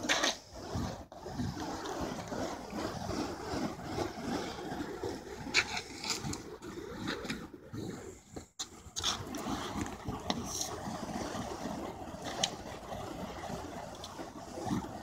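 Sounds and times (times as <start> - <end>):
fire poi whooshing: 0.0 - 15.0.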